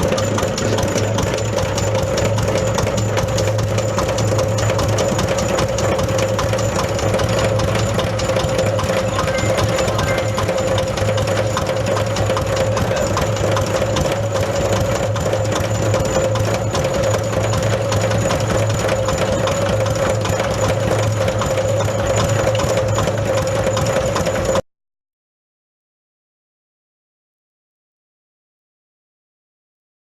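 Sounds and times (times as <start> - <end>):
grinding mill drone: 0.0 - 24.6.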